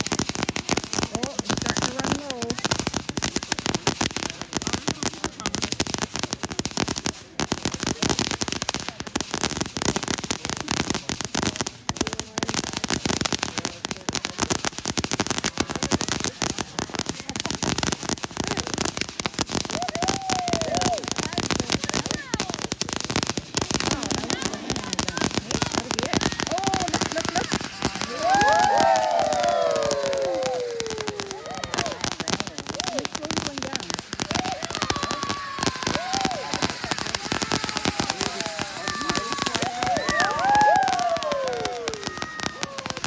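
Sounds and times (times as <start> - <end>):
fireworks crackling pops: 0.0 - 43.0.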